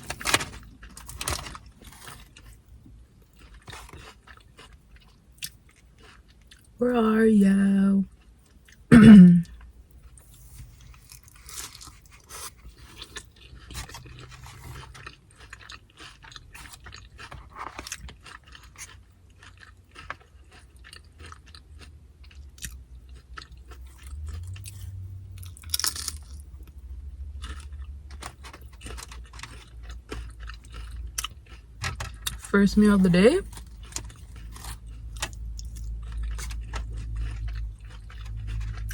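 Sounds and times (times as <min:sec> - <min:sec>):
chewing crunchy chips: 0:00.0 - 0:06.8, 0:08.0 - 0:38.9.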